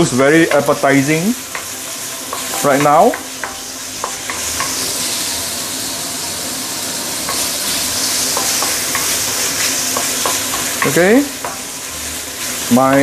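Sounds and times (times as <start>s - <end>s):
chicken sizzling in wok: 0.0s - 13.0s.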